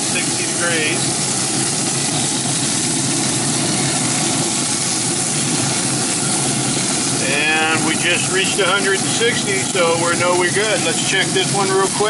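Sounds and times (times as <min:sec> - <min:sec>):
grill fan whirring hum: 0:00.0 - 0:12.0.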